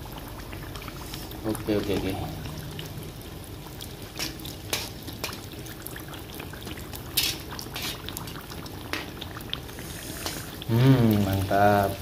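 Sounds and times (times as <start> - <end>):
deep-frying oil sizzling: 0.0 - 12.0.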